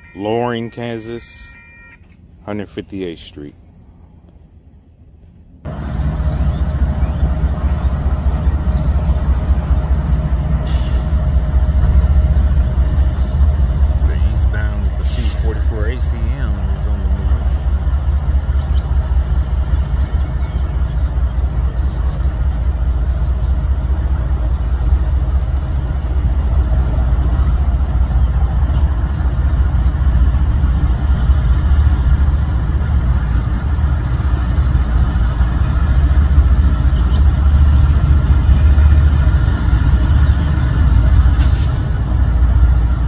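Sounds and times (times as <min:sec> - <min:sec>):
diesel locomotive engine rumble: 0:00.0 - 0:43.0.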